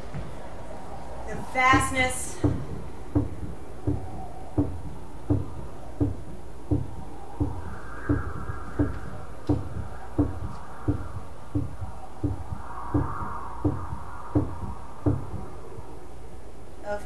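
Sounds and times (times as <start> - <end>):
soft higher wash: 0.0 - 17.0
low thudding beat: 1.3 - 16.7.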